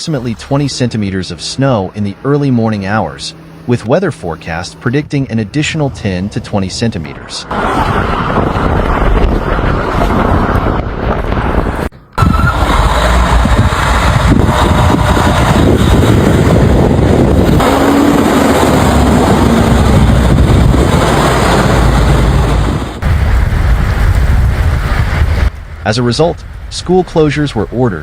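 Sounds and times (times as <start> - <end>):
vehicle noise: 0.0 - 28.0.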